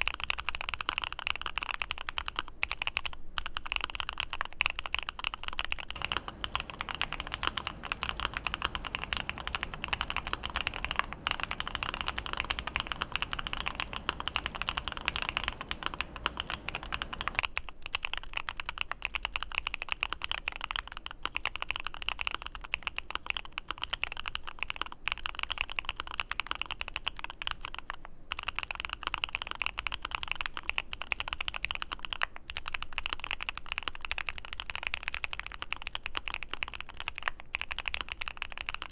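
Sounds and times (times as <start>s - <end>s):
mechanical keyboard typing: 0.8s - 27.8s, 28.4s - 38.9s.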